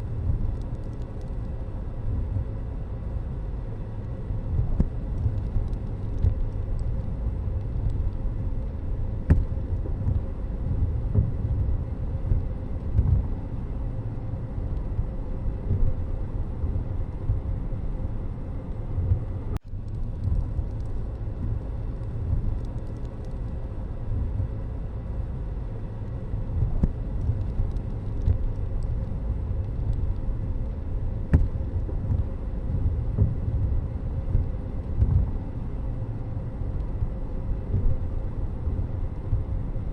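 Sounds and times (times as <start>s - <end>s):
vehicle road noise rumble: 0.0s - 39.9s.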